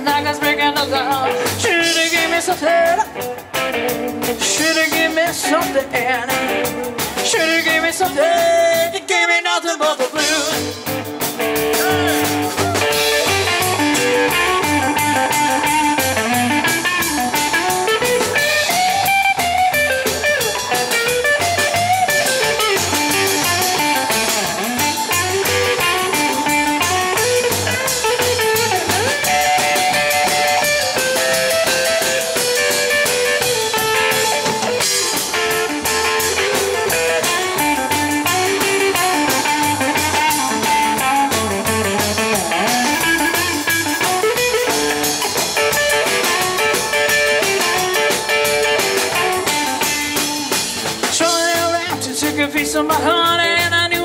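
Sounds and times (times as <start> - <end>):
electric guitar lines: 0.0 - 8.9, 10.2 - 53.9
drum kit beat: 0.0 - 9.2, 9.9 - 54.0
upright bass: 0.0 - 54.0.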